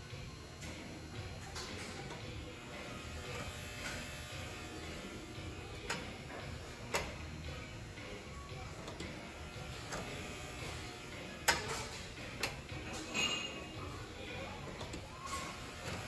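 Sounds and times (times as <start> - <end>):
door operator motor humming: 0.0 - 16.0.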